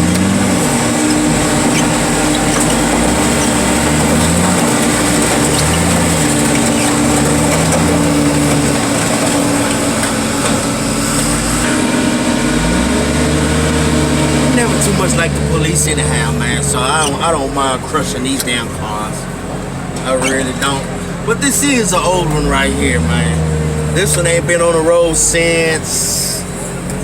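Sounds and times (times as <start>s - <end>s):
heavy equipment engine running: 0.0s - 27.0s.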